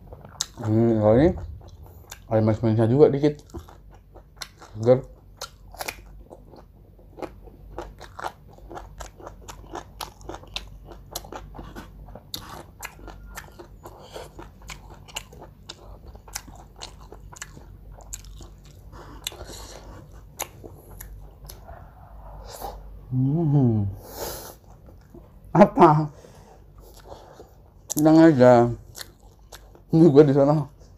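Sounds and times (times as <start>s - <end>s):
chewing crunchy food: 0.0s - 2.5s, 3.2s - 22.8s, 24.6s - 25.5s, 26.6s - 30.9s.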